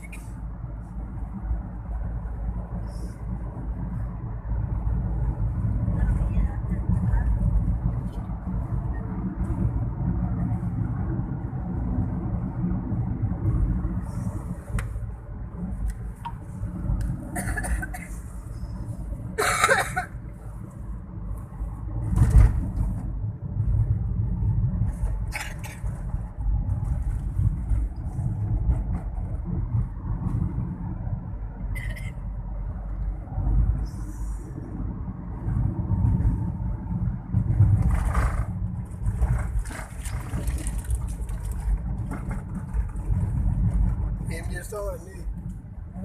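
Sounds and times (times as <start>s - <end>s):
vehicle rumbling on road: 0.0s - 46.0s.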